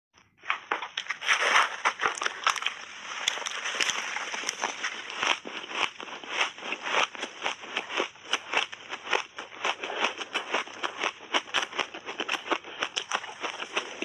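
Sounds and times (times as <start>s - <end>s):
crunchy ice chewing: 0.5s - 14.0s.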